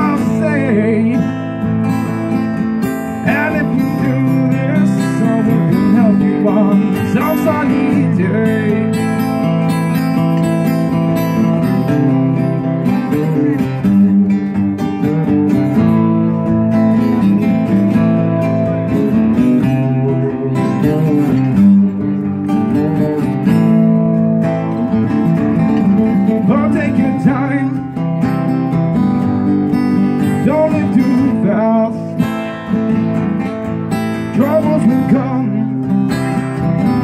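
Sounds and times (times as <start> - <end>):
acoustic guitars strumming chords: 0.0 - 37.0.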